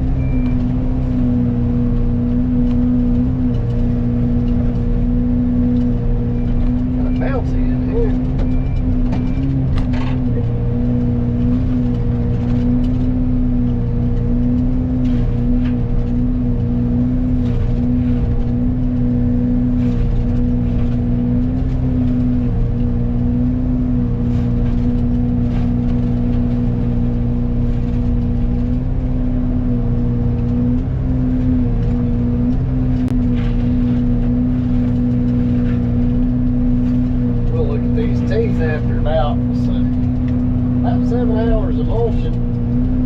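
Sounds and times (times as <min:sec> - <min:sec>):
excavator engine at full throttle: 0:00.0 - 0:43.0.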